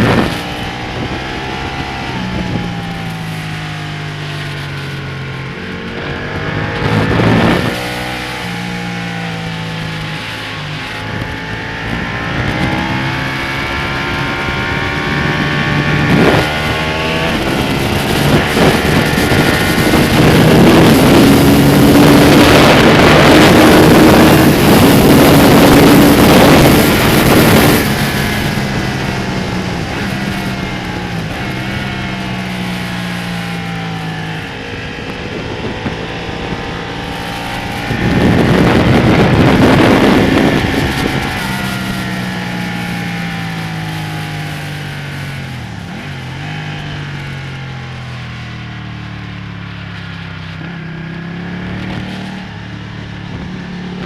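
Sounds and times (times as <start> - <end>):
wind rush: 0.0 - 47.5, 49.5 - 54.0
motorcycle engine revving: 0.0 - 54.0.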